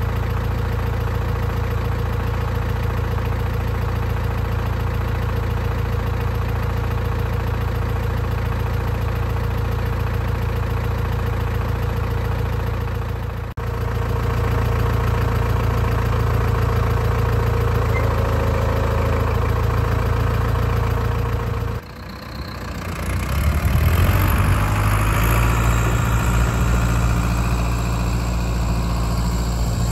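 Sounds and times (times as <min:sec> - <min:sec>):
tractor diesel engine: 0:00.0 - 0:29.9.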